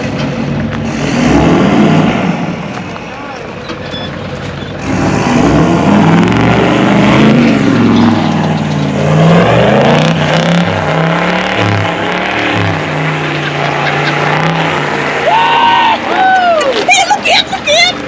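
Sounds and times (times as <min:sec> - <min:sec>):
engine revving under load: 0:00.0 - 0:02.8, 0:04.7 - 0:16.9.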